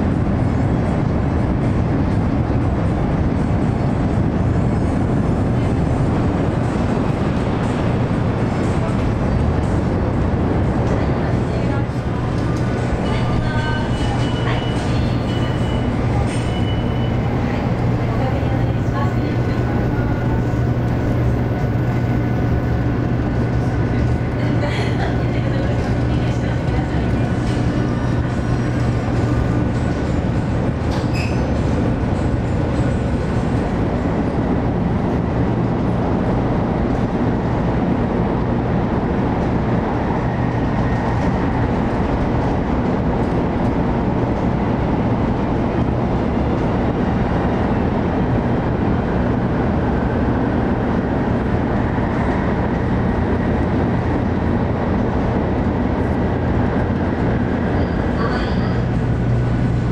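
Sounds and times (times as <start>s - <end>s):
train interior rumble and hum: 0.0s - 59.9s.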